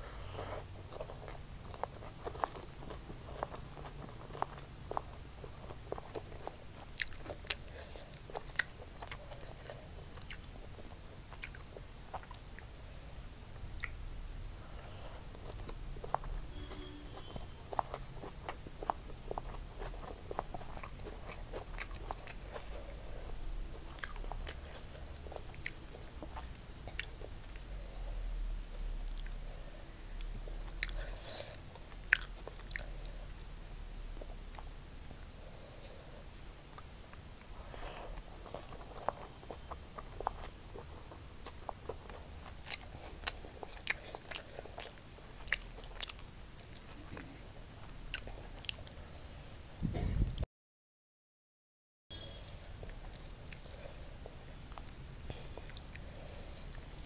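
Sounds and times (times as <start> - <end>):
close eating sounds: 0.0 - 50.4, 52.2 - 57.0
chewing with crunches: 0.2 - 13.0, 13.7 - 14.0, 14.7 - 49.6, 52.2 - 57.0.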